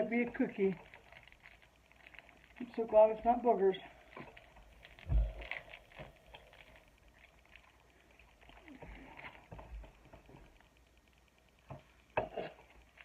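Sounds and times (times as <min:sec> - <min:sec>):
plastic packet rustling: 0:00.0 - 0:10.8.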